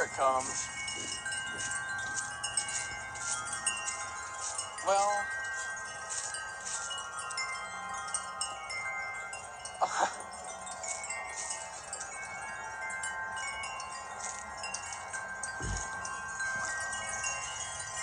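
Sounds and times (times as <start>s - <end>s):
metal wind chimes ringing: 0.0s - 18.0s.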